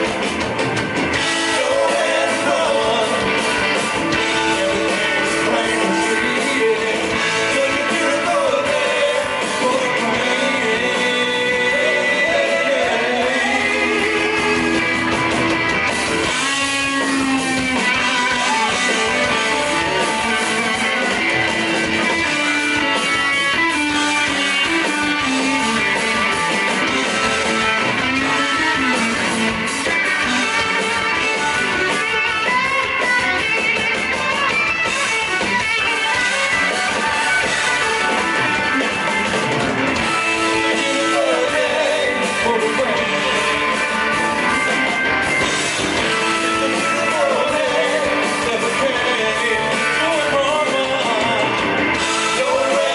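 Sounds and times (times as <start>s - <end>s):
blues-rock band playing: 0.0s - 52.9s
sliding bending electric guitar: 0.0s - 52.9s.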